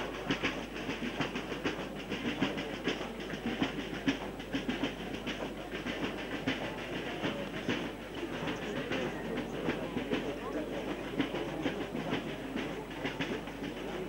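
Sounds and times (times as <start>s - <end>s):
crowd noise: 0.0s - 14.0s.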